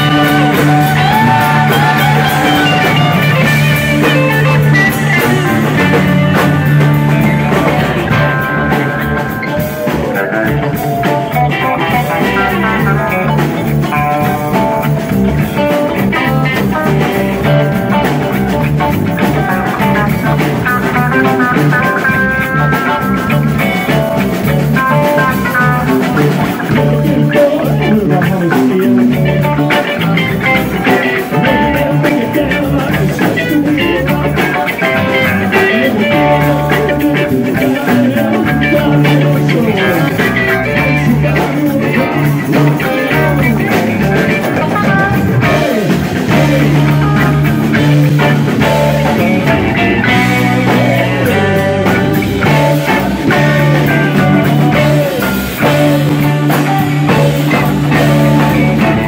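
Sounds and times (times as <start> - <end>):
bass: 0.0 - 59.0
drums: 0.0 - 59.0
electric guitars: 0.0 - 59.0.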